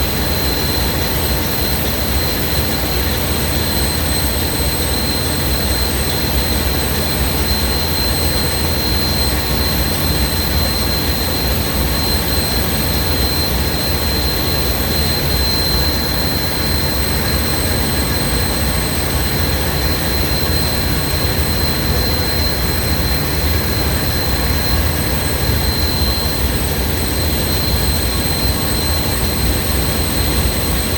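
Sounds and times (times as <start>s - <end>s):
high-pitched whine: 0.0s - 30.9s.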